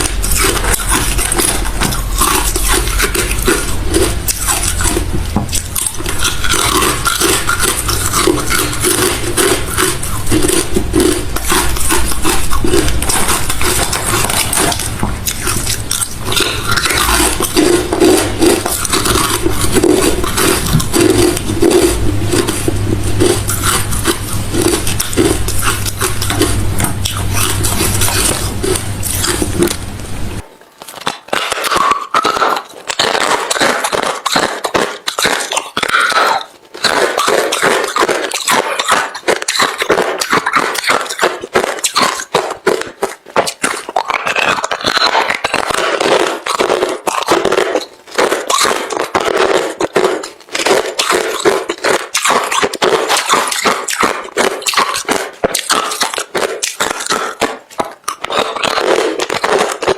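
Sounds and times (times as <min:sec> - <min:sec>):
person chewing crunchy ice: 0:00.0 - 0:59.9
steady low hum: 0:00.0 - 0:59.9.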